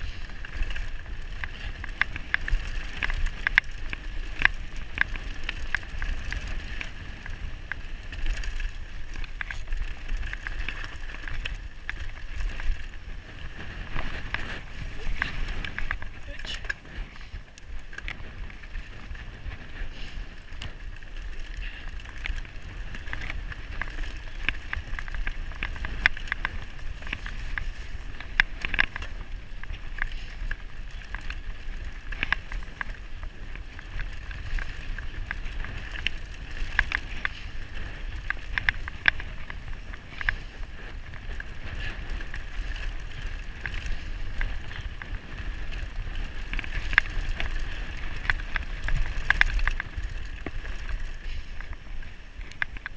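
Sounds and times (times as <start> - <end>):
bike rattles and knocks: 0.0 - 52.9
tyres crunching over gravel: 0.0 - 52.9
wind rumble on microphone: 0.0 - 52.9.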